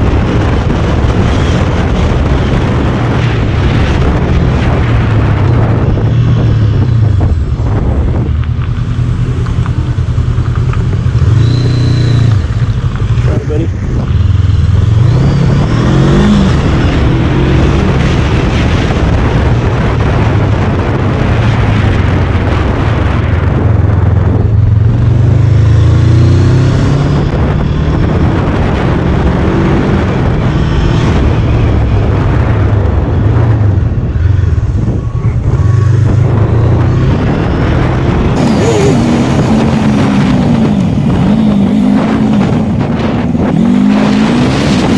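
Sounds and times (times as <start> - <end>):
motorcycle engine accelerating: 0.0 - 44.9
wind rushing over microphone: 0.0 - 44.9.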